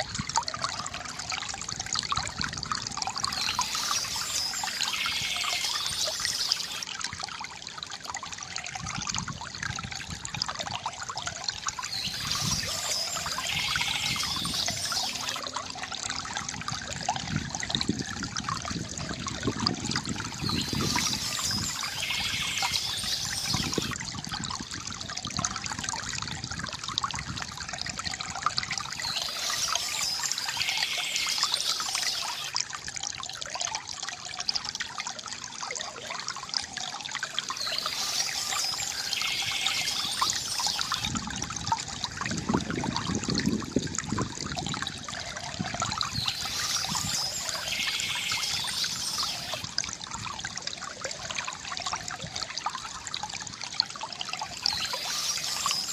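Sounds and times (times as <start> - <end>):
water trickling from bamboo fountain: 0.0 - 55.9.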